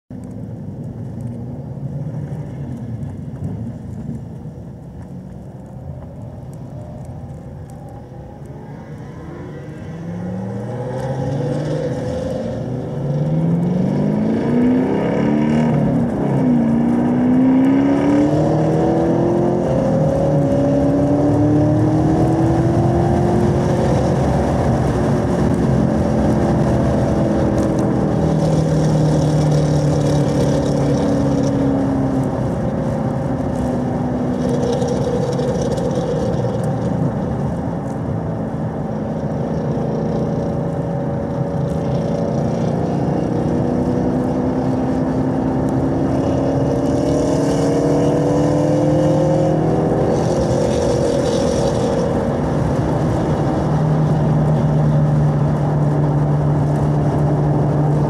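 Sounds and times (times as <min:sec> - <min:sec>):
car engine accelerating: 0:00.2 - 0:58.0.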